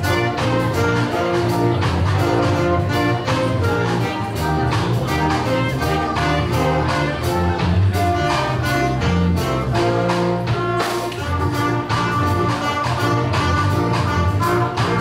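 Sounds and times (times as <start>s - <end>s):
bass line: 0.0s - 15.0s
saxophones and trumpets: 0.0s - 15.0s
steady beat: 0.0s - 15.0s.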